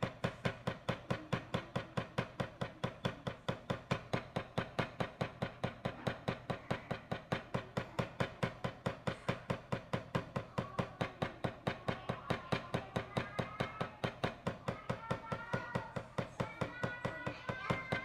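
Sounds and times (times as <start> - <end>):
drumstick striking practice pad: 0.0 - 18.0.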